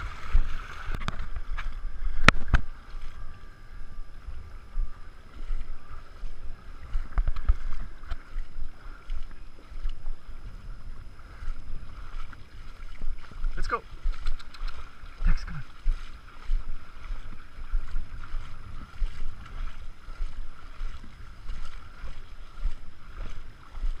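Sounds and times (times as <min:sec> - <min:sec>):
water sloshing and splashing: 0:00.0 - 0:24.0
wind rumbling on microphone: 0:00.0 - 0:24.0.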